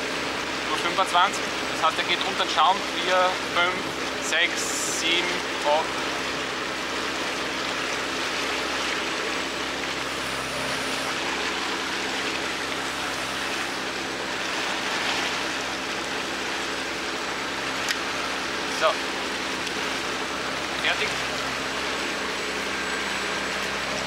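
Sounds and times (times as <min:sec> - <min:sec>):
boat engine humming: 0:00.0 - 0:24.0
water rushing from wake: 0:00.0 - 0:24.0.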